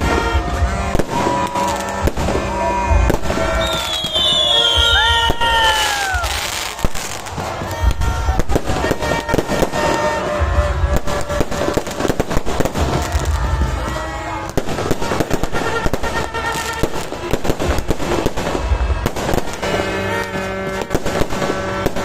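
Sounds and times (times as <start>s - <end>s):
deep firework booms: 0.0s - 22.0s
fireworks cracking and popping: 0.0s - 22.0s
loud music: 0.0s - 22.0s.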